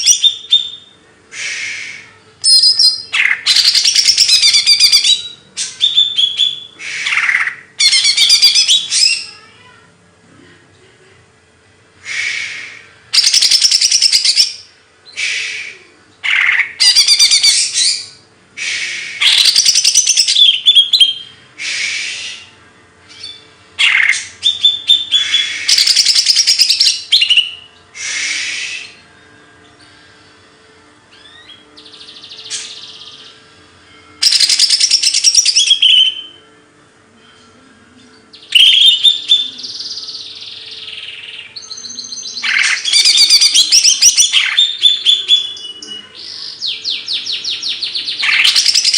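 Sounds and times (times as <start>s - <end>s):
songbird chirps and trills: 0.0s - 10.0s, 10.8s - 48.9s.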